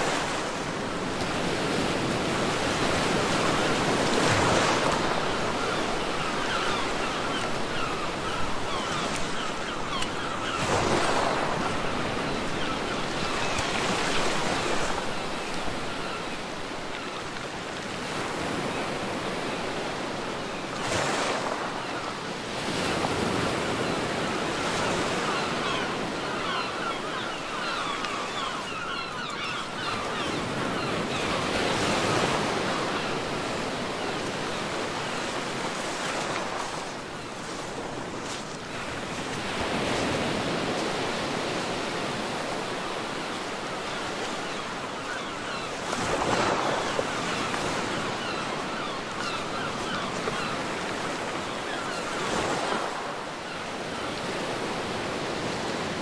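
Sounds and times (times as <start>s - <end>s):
ocean waves washing ashore: 0.0s - 56.0s
wind: 0.0s - 56.0s.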